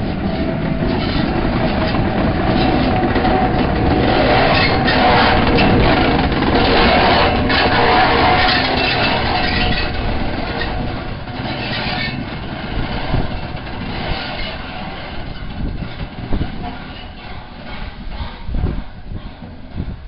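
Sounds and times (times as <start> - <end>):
steam locomotive moving slowly: 0.0 - 20.0.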